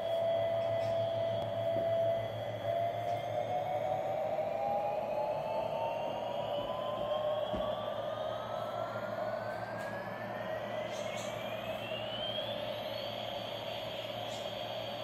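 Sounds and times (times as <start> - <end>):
toy electronic jet whine: 0.0 - 15.0.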